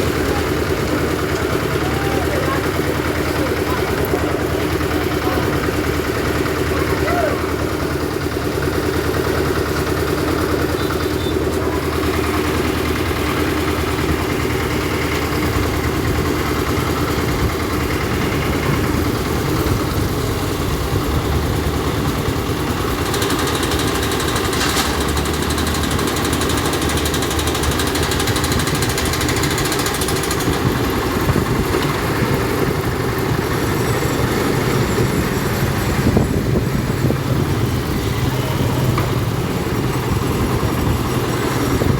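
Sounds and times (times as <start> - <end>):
concrete mixer engine running: 0.0 - 41.9.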